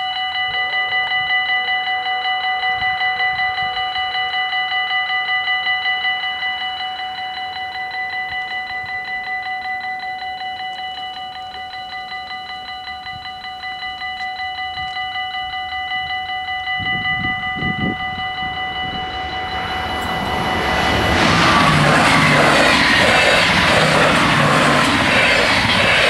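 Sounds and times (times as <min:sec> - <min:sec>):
level crossing bells ringing: 0:00.0 - 0:26.0
approaching electric train: 0:00.2 - 0:26.0.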